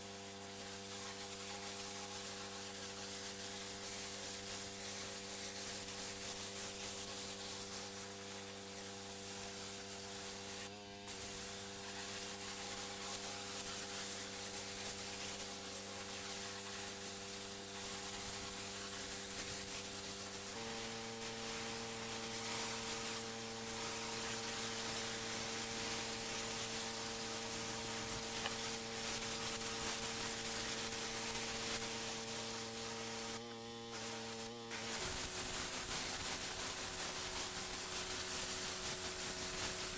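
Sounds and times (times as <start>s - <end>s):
high-pressure water spray hissing: 0.0s - 39.9s
pressure washer engine humming: 7.9s - 39.9s.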